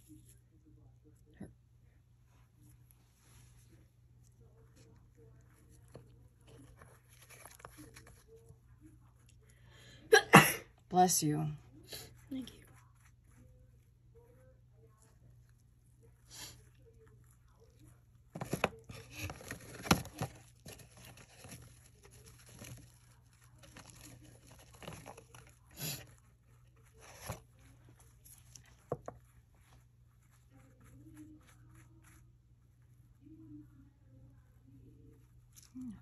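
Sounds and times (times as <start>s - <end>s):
crinkly handling noises: 2.3s - 9.8s, 11.7s - 36.0s.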